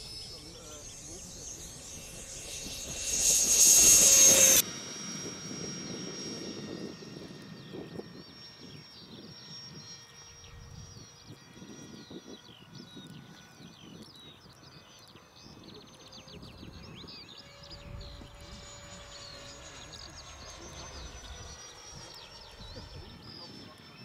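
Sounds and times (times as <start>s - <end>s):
model jet fan whining: 0.0s - 24.0s.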